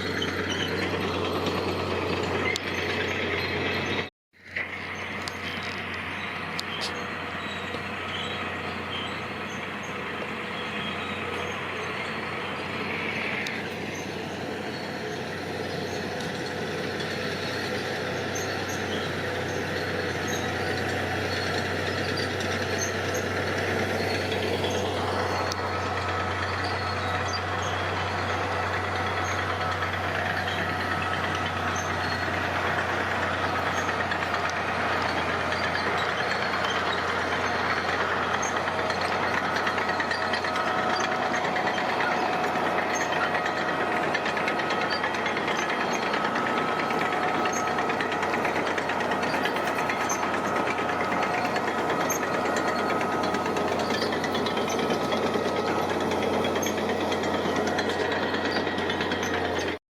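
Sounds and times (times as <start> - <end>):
heavy machinery engine humming: 0.0 - 59.8.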